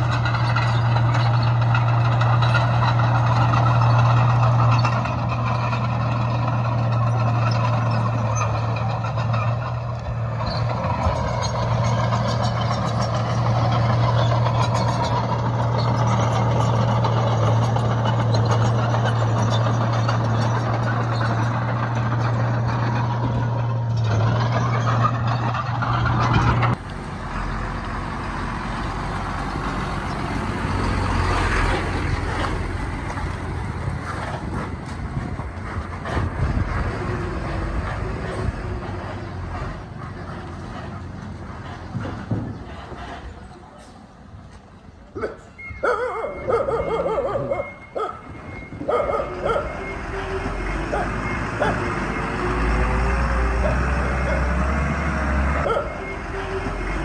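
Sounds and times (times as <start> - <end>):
diesel machinery engine hum: 0.0 - 57.0.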